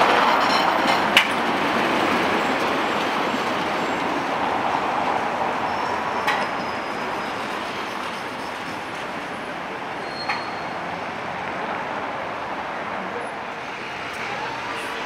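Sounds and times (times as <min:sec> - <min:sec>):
tram rumbling: 0:00.0 - 0:15.0
wheels clacking on rails: 0:00.0 - 0:15.0.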